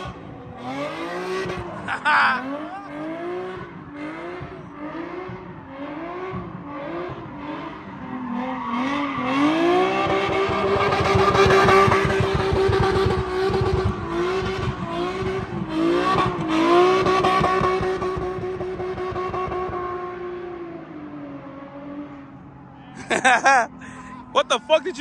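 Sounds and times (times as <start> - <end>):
car engine revving: 0.0 - 22.6.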